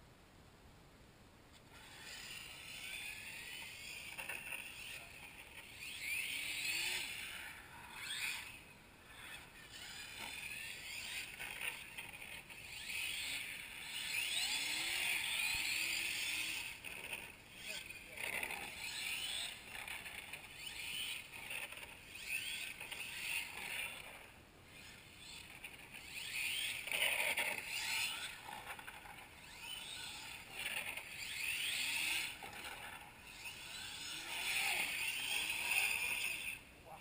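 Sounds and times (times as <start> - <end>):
rc car motor whining: 1.6 - 37.0.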